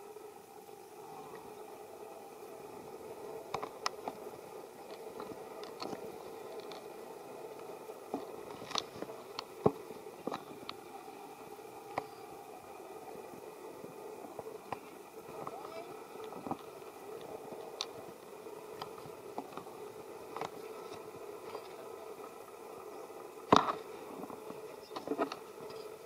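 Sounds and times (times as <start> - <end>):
faint steady background noise: 0.0 - 26.0.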